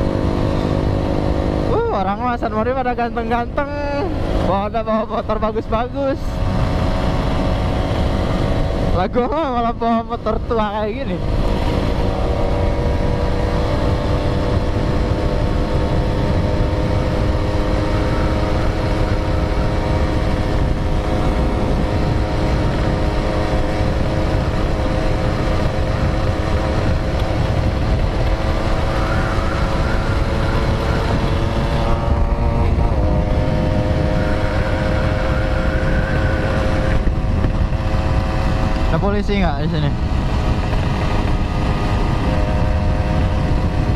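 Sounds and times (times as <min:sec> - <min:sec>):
motorcycle engine running: 0:00.0 - 0:43.9
wind rush on microphone: 0:00.0 - 0:43.9.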